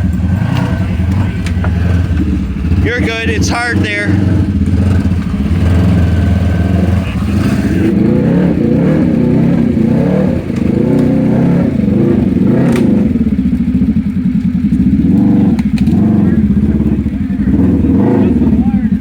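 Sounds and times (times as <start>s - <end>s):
off-road vehicle engines revving: 0.0s - 19.0s.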